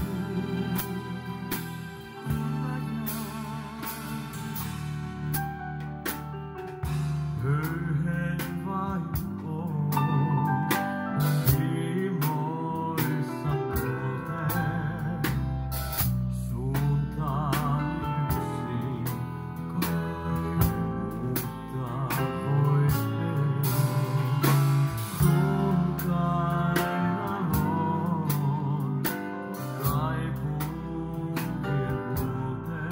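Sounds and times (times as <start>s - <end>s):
man singing with vibrato: 0.0s - 5.0s, 7.4s - 15.6s, 16.4s - 32.9s
drum kit: 0.0s - 32.9s
electric bass: 0.0s - 32.9s
keyboards: 0.0s - 32.9s.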